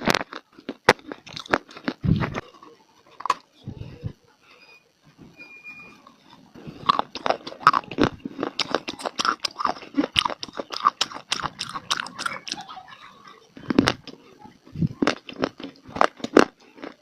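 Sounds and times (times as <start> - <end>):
crunching and chewing dry clay: 0.0 - 4.6, 6.0 - 17.0.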